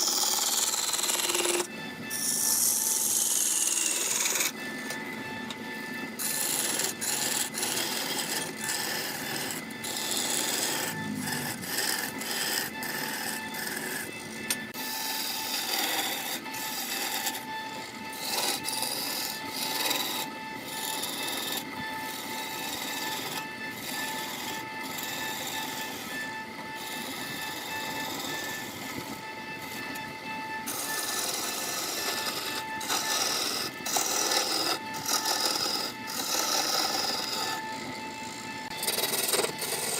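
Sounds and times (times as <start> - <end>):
chisel scraping wood: 0.0 - 5.6, 6.2 - 39.9
lathe steady tone: 0.0 - 39.9.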